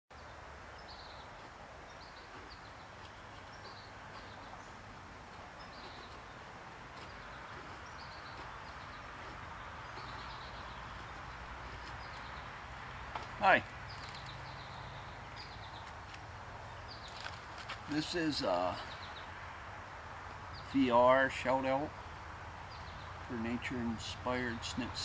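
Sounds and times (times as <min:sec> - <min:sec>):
small birds chirping: 0:00.1 - 0:25.0
steady background noise: 0:00.1 - 0:25.0.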